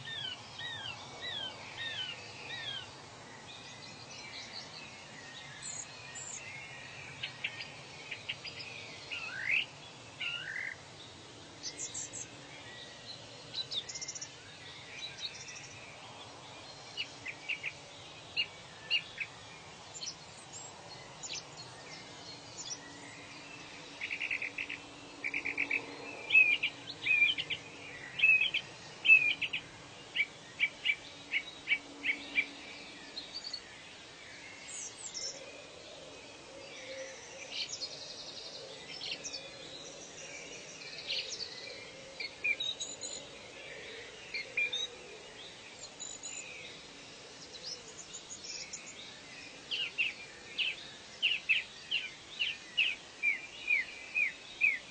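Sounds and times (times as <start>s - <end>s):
birds singing: 0.0s - 54.9s
faint background hiss: 0.0s - 54.9s.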